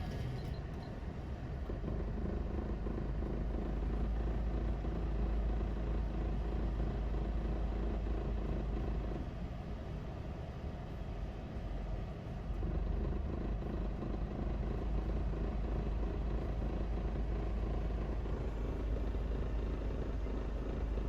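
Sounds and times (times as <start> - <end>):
van engine droning: 0.0 - 21.0.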